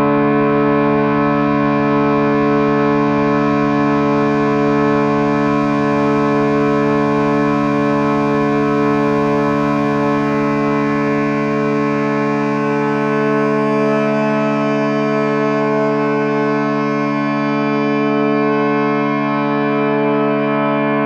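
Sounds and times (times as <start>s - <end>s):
ambient drone music: 0.0s - 21.0s.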